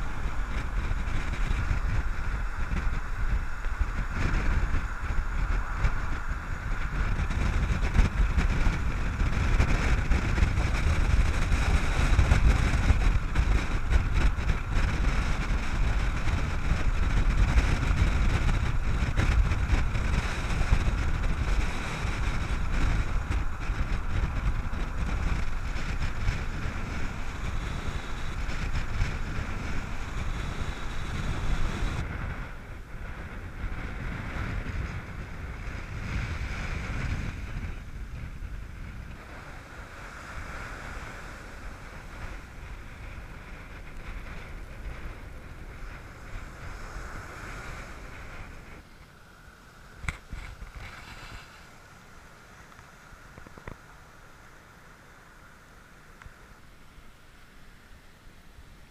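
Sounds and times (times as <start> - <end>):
wind buffeting microphone: 0.0 - 54.3
steady low rumble: 0.0 - 58.9
surf washing onto beach: 0.0 - 58.9.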